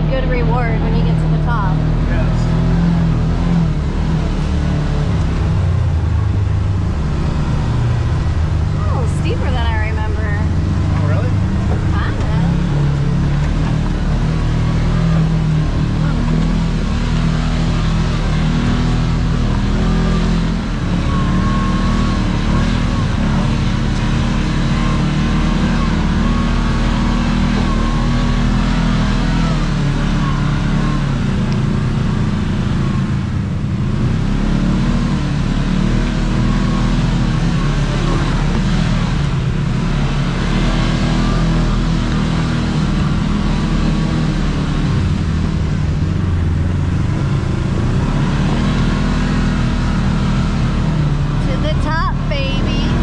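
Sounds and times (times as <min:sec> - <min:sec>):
off-road vehicle engine revving: 0:00.0 - 0:53.0.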